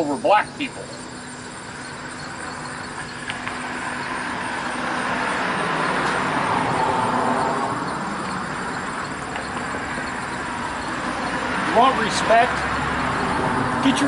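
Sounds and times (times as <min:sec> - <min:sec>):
vehicle passing on road: 0:00.0 - 0:14.0.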